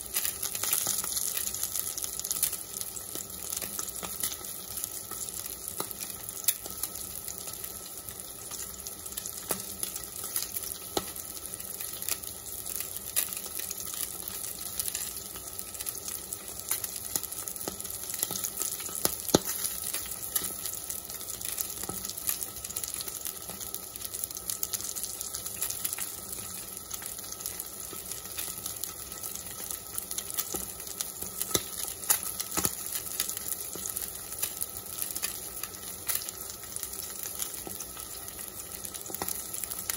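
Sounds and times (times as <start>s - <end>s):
fish sizzling in hot oil: 0.0s - 39.9s.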